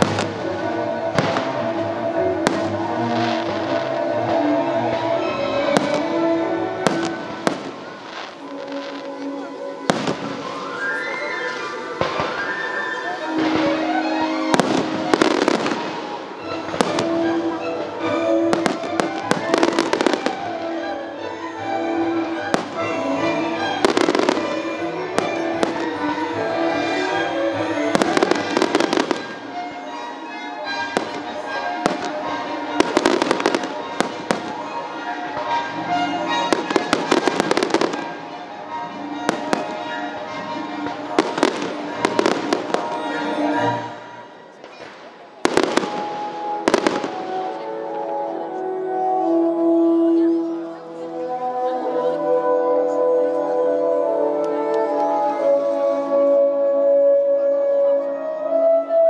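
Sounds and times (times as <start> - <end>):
fireworks bursting with bangs: 0.0 - 48.0
music playing: 0.0 - 59.0.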